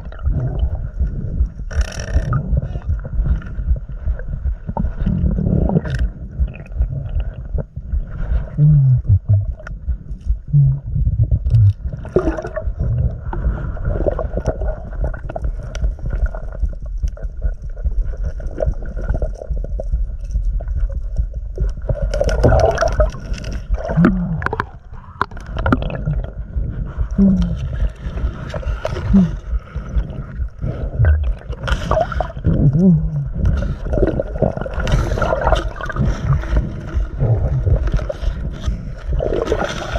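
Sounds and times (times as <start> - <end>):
underwater low rumble: 0.0 - 39.9.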